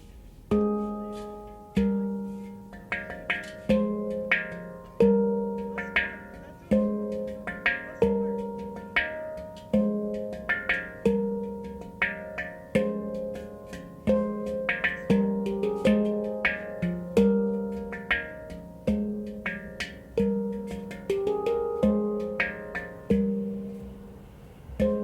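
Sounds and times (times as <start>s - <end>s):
handpan ringing notes: 0.0s - 25.0s.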